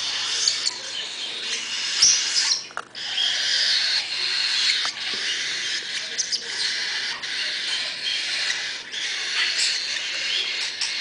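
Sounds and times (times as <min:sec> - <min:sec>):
chicks begging calls: 0:00.0 - 0:11.0.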